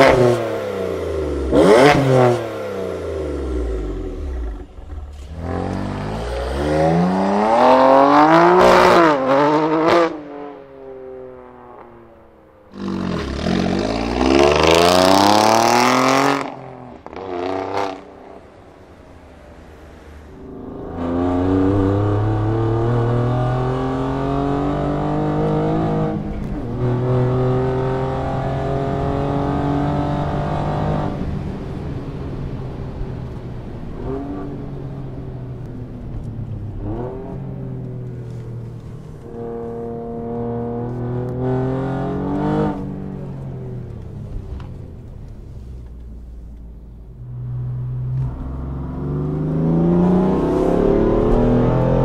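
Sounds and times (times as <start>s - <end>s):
car engine revving: 0.0s - 31.8s, 32.9s - 52.0s.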